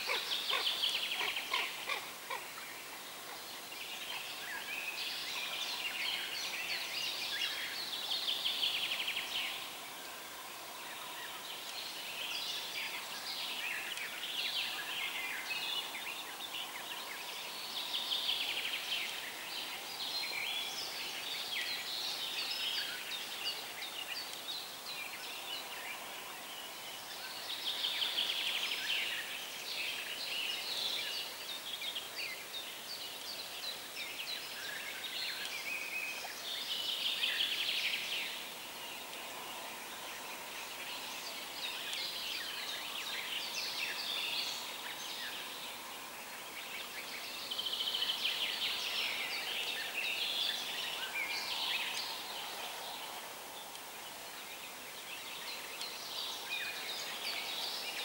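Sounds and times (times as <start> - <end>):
faint steady hiss: 0.0 - 58.0
songbirds singing: 0.0 - 58.0.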